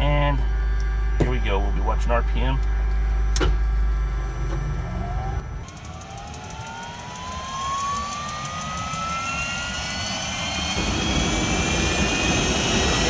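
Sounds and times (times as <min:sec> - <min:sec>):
turbine engine whine rising: 0:00.0 - 0:13.0.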